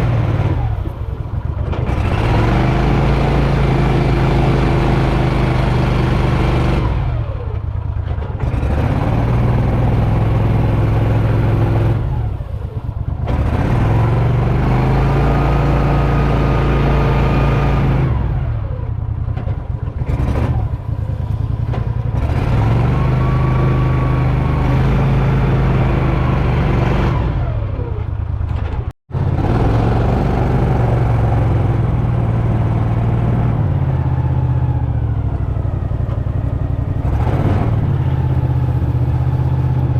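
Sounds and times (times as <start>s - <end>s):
engine revving: 0.0s - 39.9s.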